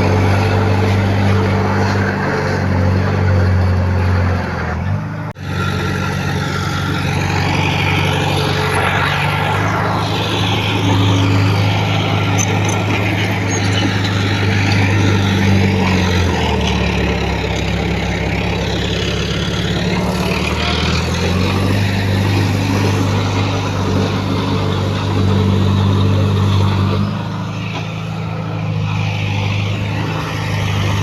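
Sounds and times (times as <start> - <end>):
heavy machinery diesel engine: 0.0 - 31.0.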